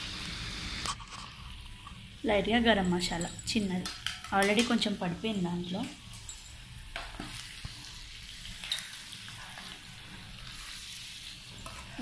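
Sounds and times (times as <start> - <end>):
frying sizzle in a pan: 0.0 - 2.6, 3.8 - 12.0.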